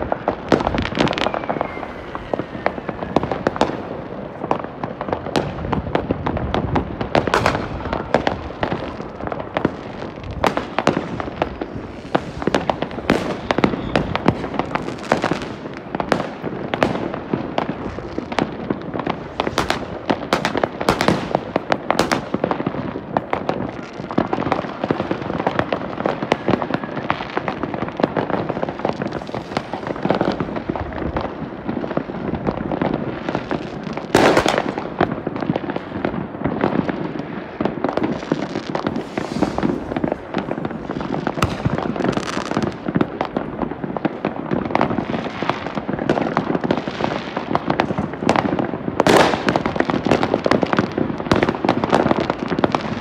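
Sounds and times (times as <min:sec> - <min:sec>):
sharp firework bangs: 0:00.0 - 0:43.5
fireworks crackling and popping: 0:00.0 - 0:53.0.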